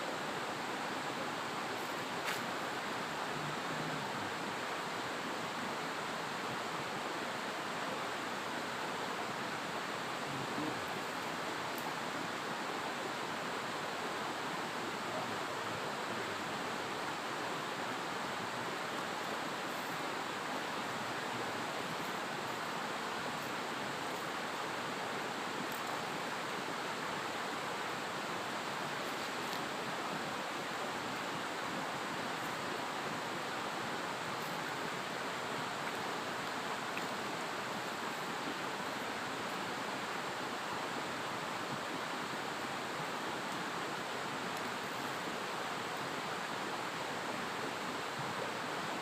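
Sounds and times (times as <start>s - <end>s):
flowing water rushing: 0.0s - 49.0s.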